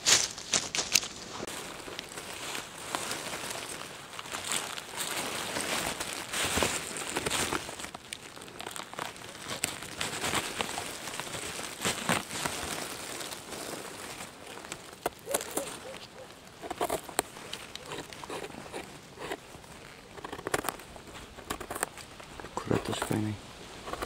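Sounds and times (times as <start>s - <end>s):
leaf litter rustling and crackling: 0.0s - 24.0s.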